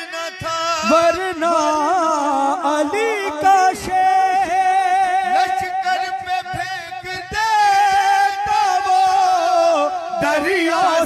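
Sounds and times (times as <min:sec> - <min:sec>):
men singing devotional song: 0:00.0 - 0:11.0.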